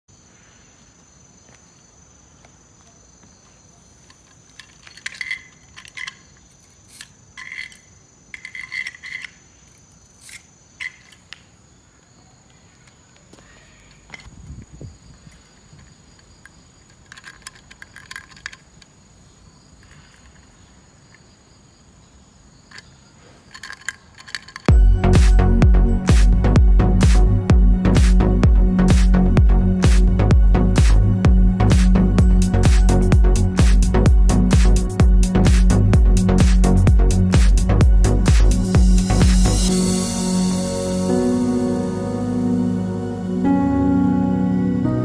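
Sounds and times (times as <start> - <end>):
insects droning: 0.1 - 26.5, 27.1 - 45.0.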